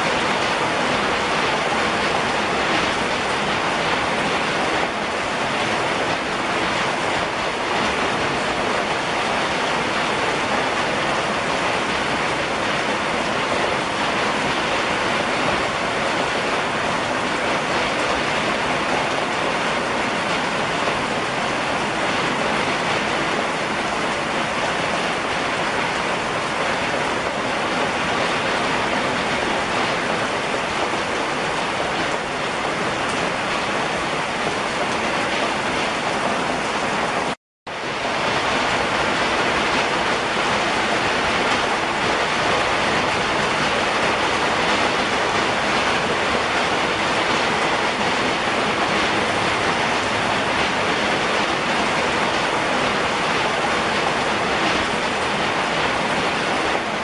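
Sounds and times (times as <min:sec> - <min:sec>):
heavy rain through trees: 0:00.0 - 0:57.0.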